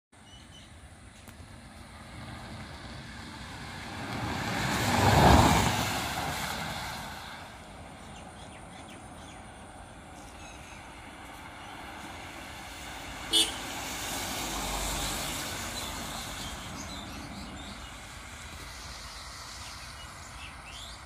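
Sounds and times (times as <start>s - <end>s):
road noise: 0.1s - 21.0s
car passing by: 1.2s - 21.0s.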